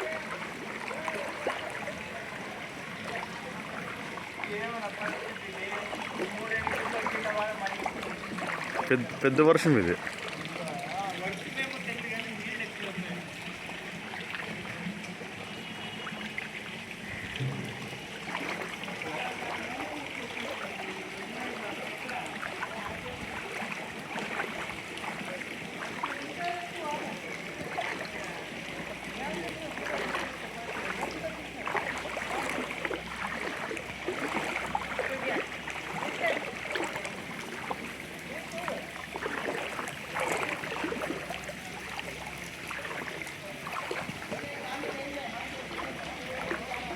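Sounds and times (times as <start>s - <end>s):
faint voices: 0.0s - 46.9s
floodwater rushing: 0.0s - 46.9s.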